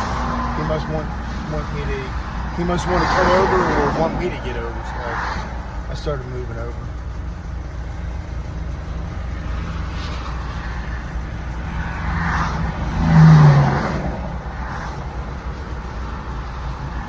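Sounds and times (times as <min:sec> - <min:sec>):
vehicle passing by: 0:00.0 - 0:06.7, 0:07.9 - 0:17.0
highway road noise: 0:00.0 - 0:17.0
low engine hum: 0:00.0 - 0:17.0.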